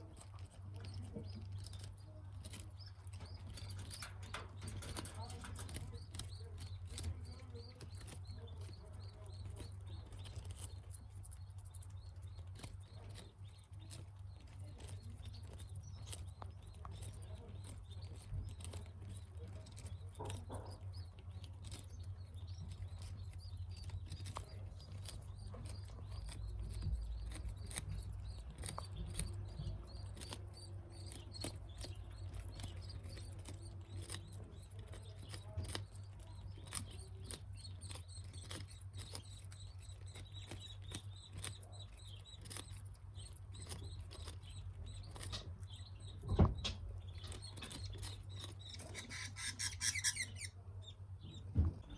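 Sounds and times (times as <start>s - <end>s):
budgies pecking at food: 0.0s - 51.9s
faint bird chirps: 0.0s - 51.9s
steady low hum: 0.0s - 51.9s.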